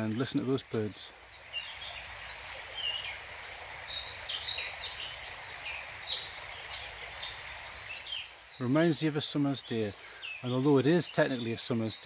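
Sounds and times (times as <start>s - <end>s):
birds chirping and twittering: 0.0s - 12.0s
steady background hiss: 0.0s - 12.0s.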